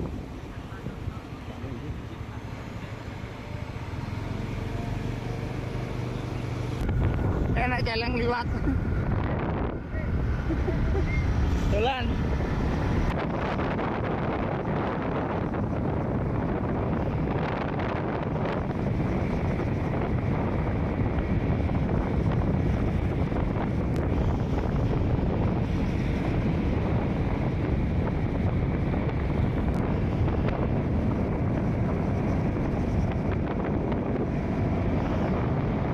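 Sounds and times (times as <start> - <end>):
vehicle running on road: 0.0 - 35.9
wind buffeting microphone: 0.0 - 35.9.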